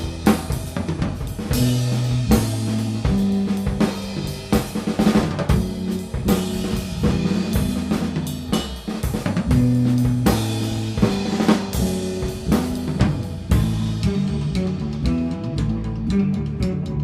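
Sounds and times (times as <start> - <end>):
drum kit beat: 0.0 - 17.0
held bass and guitar notes: 0.0 - 17.0.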